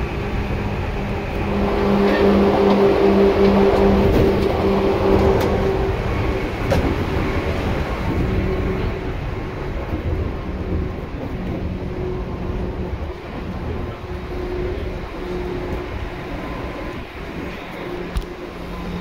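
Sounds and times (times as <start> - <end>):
train motor and wheel noise: 0.0 - 19.0.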